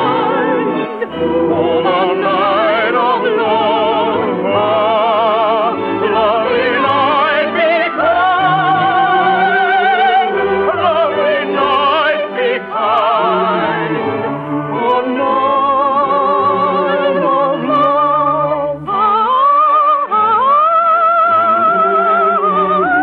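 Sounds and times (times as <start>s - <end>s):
orchestral accompaniment: 0.0s - 23.0s
soprano singing opera: 0.0s - 23.0s.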